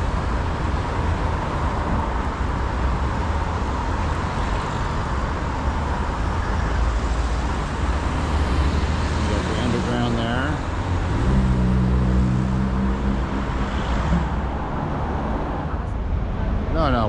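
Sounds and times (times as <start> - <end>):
rumble of passing cars: 0.0 - 17.0.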